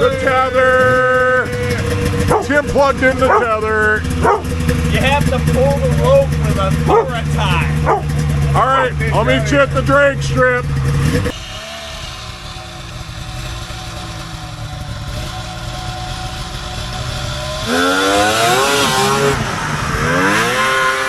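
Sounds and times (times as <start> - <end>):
snowmobile engines revving: 0.0 - 21.0.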